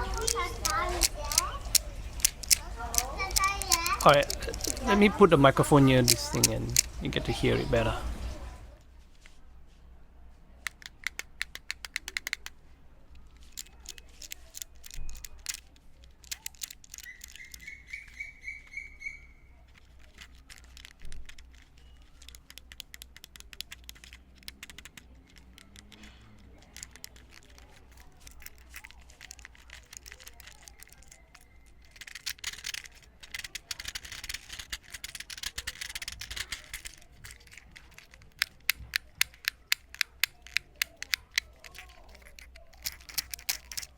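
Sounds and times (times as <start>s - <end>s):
small plastic clicks: 0.0s - 5.2s, 6.0s - 7.0s, 10.6s - 43.9s.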